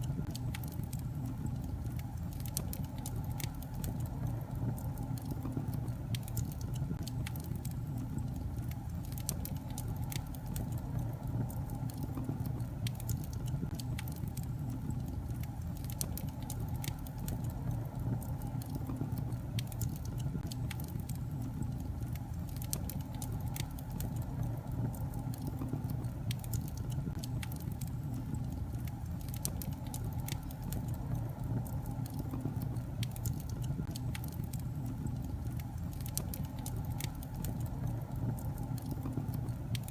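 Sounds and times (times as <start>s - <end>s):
fire flames rumbling: 0.0s - 39.9s
logs crackling and popping: 0.0s - 39.9s.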